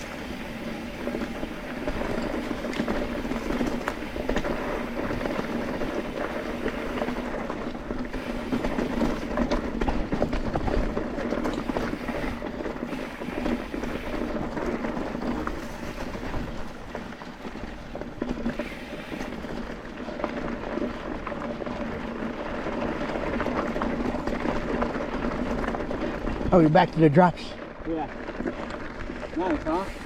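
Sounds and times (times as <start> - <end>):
bike tyres rolling on dirt: 0.0 - 30.0.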